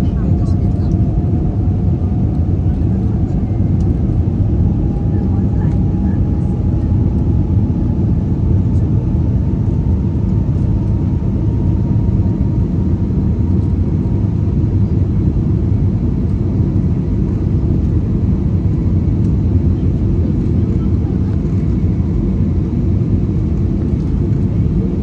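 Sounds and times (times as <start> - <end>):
jet engines and airflow rumble: 0.0 - 25.0.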